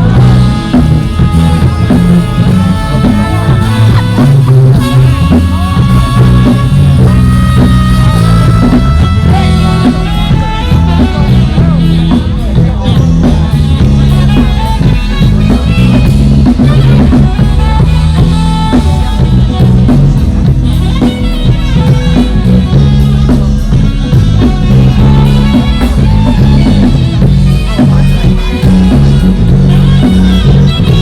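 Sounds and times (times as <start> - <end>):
rock band playing instrumental: 0.0 - 31.0.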